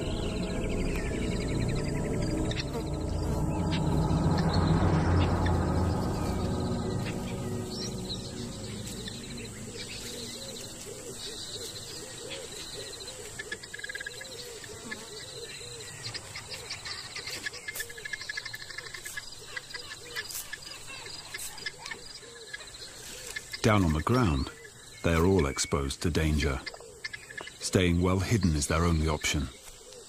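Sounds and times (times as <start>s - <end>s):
birds calling: 0.0s - 30.0s
insects chirping: 0.0s - 30.0s.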